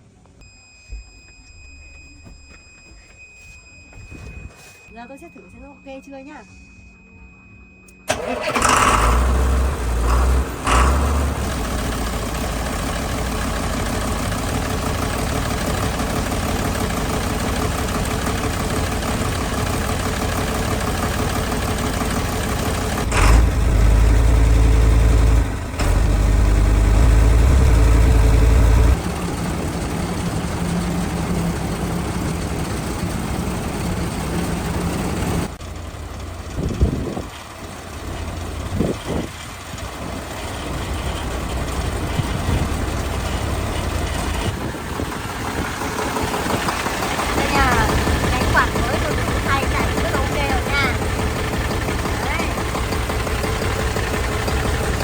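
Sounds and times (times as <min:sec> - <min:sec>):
diesel truck engine revving and idling: 0:08.1 - 0:55.0.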